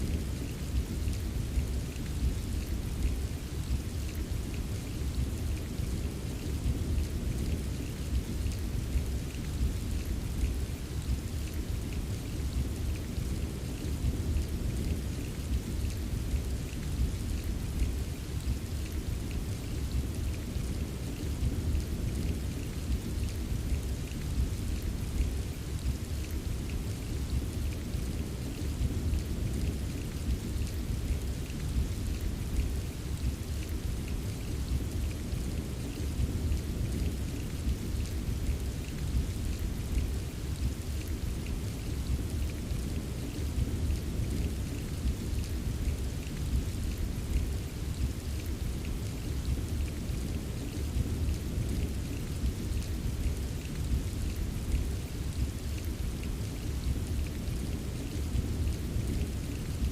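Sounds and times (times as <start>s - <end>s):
continuous low rumble: 0.0s - 59.9s
rain drops tapping: 0.0s - 59.9s.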